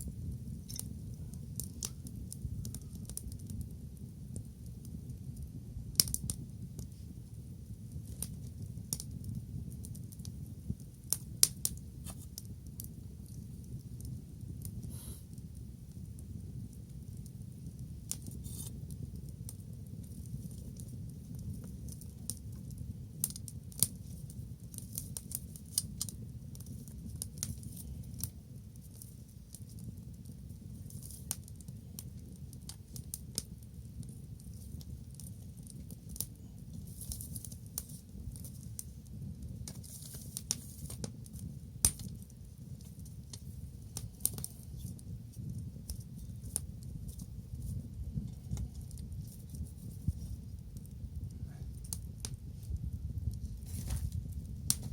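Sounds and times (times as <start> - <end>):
bonfire crackling and popping: 0.0 - 54.9.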